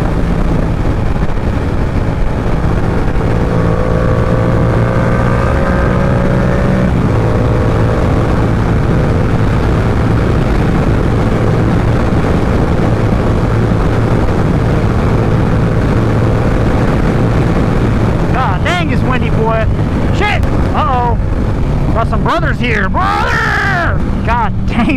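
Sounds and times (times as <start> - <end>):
motorcycle engine cruising: 0.0 - 24.9
wind rushing over microphone: 0.0 - 24.9.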